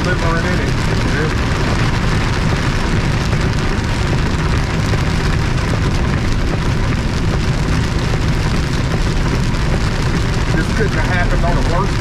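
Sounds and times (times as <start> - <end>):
rain and road spray hiss: 0.0 - 12.0
truck engine and tyres droning: 0.0 - 12.0.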